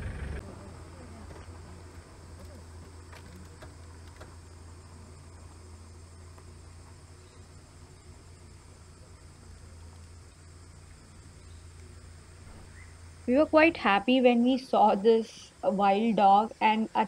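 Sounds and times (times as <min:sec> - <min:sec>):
engine idling hum: 0:00.0 - 0:13.8
forest insects chirring: 0:00.0 - 0:17.0.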